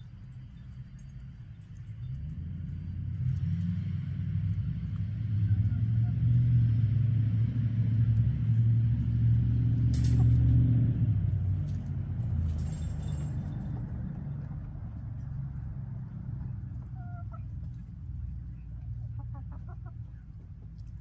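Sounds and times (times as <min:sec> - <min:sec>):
motor vehicle engine rumble: 0:00.0 - 0:21.0.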